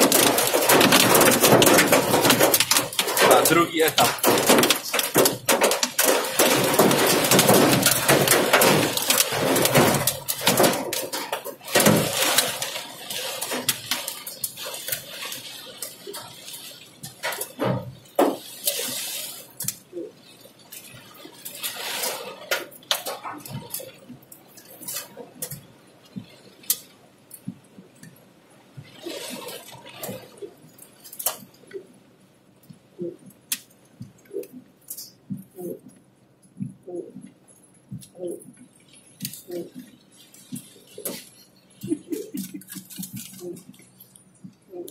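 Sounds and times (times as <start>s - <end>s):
heavy rain on a car roof: 0.0s - 44.9s.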